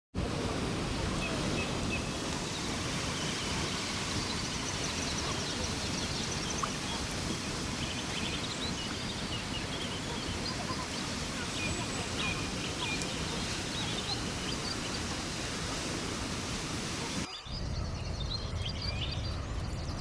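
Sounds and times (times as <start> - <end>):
waterfall rushing: 0.2 - 17.3
small birds chirping: 1.0 - 20.0.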